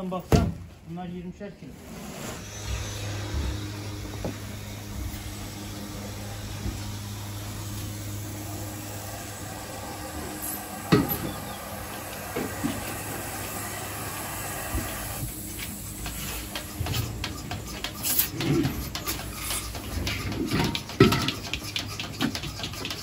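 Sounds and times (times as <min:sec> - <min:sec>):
motor humming: 0:02.1 - 0:21.0.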